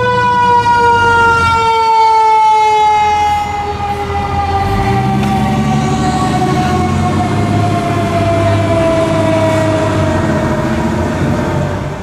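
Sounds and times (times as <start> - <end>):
fire engine siren falling tone: 0.0 - 12.0
truck engine rumble: 0.0 - 12.0.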